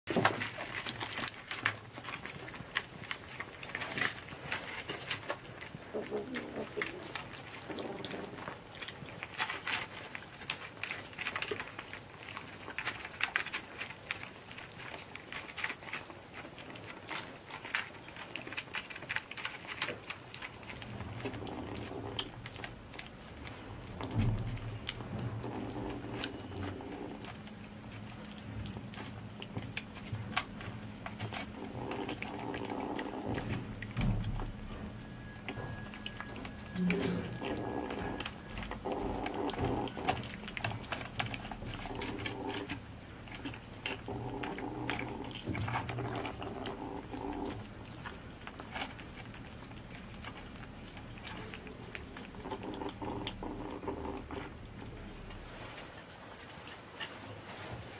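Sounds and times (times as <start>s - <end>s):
kittens chewing food: 0.0s - 57.9s.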